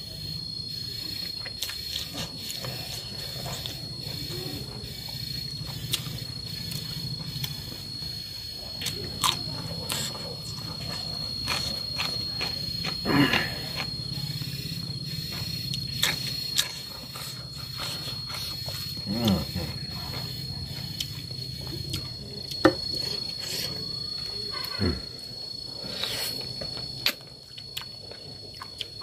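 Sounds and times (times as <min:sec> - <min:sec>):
chewing: 0:01.2 - 0:23.9, 0:25.9 - 0:29.0.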